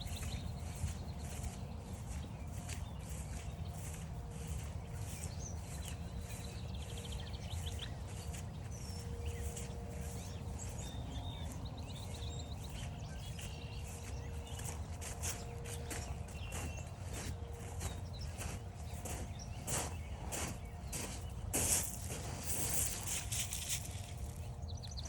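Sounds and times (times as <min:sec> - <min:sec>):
footsteps on forest trail: 0:00.0 - 0:25.0
small birds chirping: 0:00.0 - 0:25.0.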